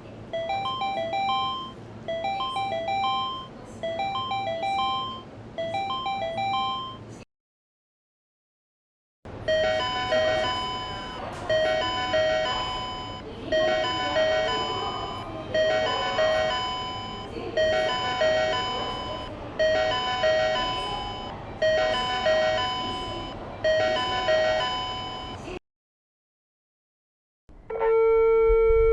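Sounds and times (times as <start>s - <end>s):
station background noise: 0.0s - 7.2s, 9.3s - 25.6s, 27.5s - 28.9s.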